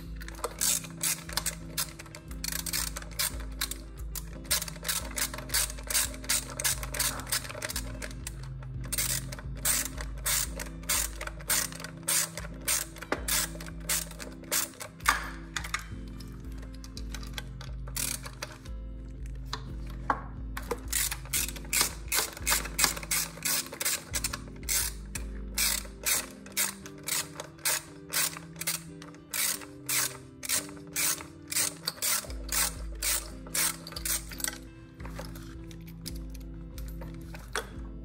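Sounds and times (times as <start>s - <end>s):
background music with bass notes: 0.0s - 38.0s
ratchet wrench clicking: 0.2s - 16.0s, 16.7s - 18.7s, 20.6s - 37.7s.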